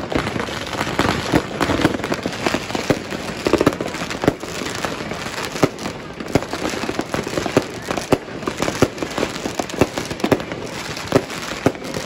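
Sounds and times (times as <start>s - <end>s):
firecrackers banging and crackling: 0.0s - 12.0s.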